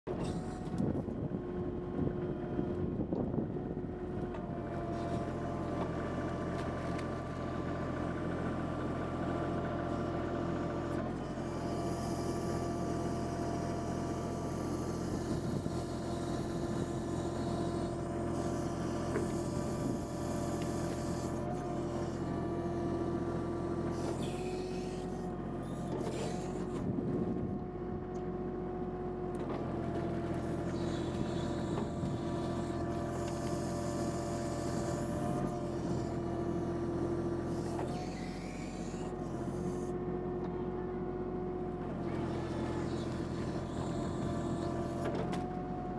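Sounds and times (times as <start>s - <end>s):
backhoe hydraulics working: 0.1s - 28.4s, 29.0s - 45.9s
diesel tractor engine running: 0.1s - 45.9s.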